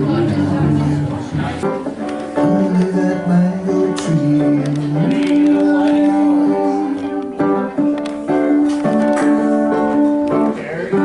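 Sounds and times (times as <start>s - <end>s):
person singing live: 0.0s - 11.0s.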